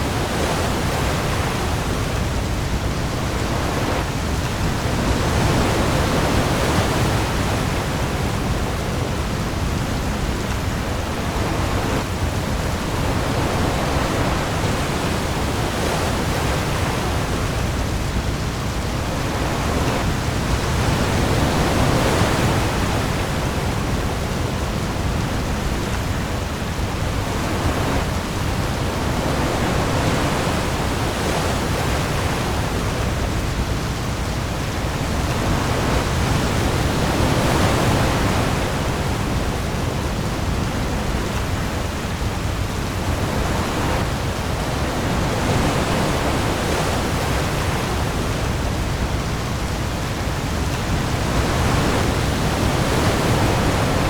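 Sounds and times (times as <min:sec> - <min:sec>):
heavy rain on sea: 0:00.0 - 0:54.0
waves: 0:00.0 - 0:54.0.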